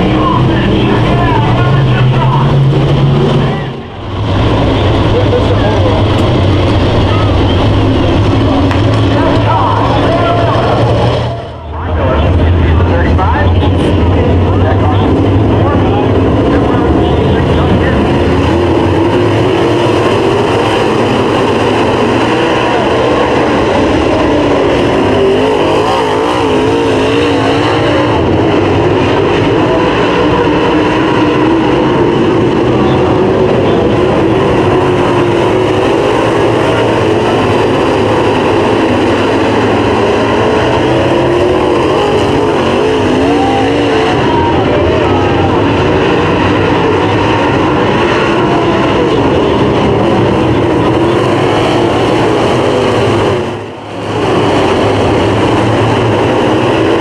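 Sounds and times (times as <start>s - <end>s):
race car engines roaring: 0.0s - 57.0s.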